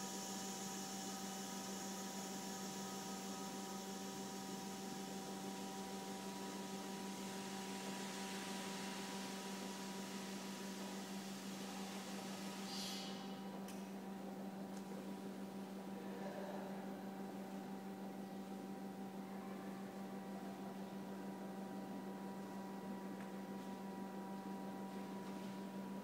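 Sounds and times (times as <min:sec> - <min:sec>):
electrical hum with tones: 0:00.0 - 0:26.0.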